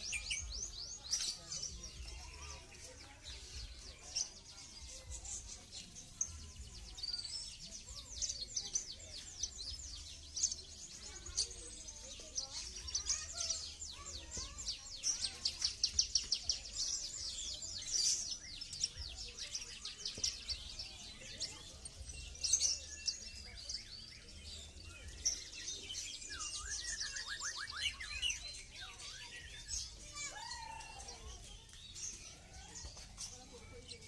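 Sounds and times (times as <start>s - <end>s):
songbirds chirping and twittering: 0.0s - 34.0s.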